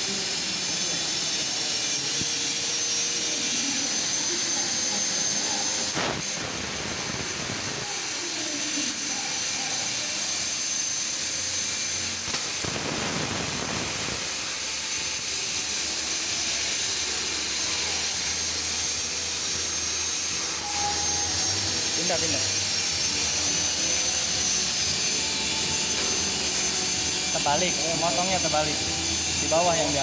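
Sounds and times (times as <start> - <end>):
laser cutter gas hissing: 0.0 - 30.0
thin high whine: 0.0 - 30.0.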